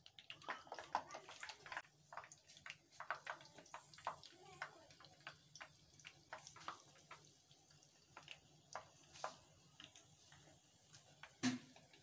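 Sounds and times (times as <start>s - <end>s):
hot oil crackling and popping: 0.0s - 12.0s.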